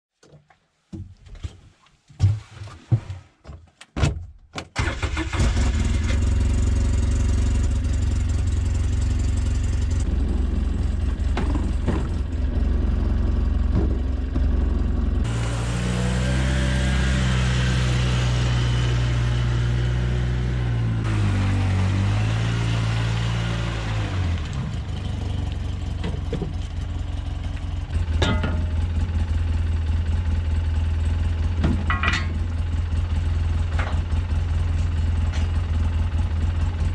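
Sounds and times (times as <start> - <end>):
utility vehicle engine: 4.8 - 36.9.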